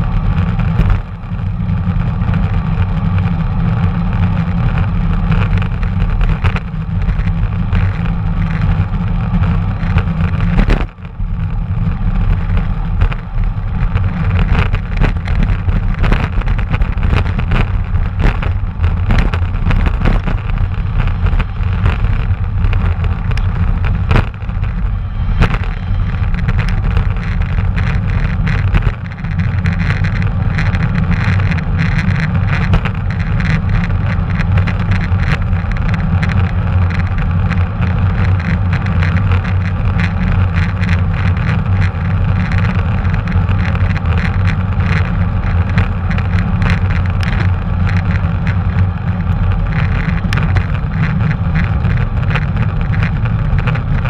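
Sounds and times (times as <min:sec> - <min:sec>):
bicycle clicks and rattles: 0:00.0 - 0:54.0
bicycle road noise: 0:00.0 - 0:54.0
wind rumble: 0:00.0 - 0:54.0.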